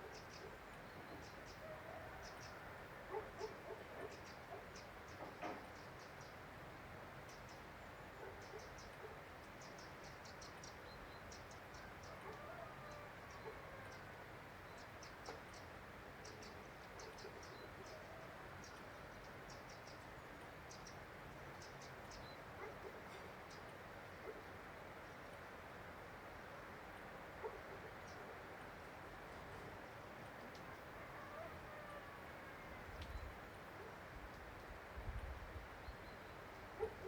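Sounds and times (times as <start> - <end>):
soft outdoor hiss: 0.0 - 37.0.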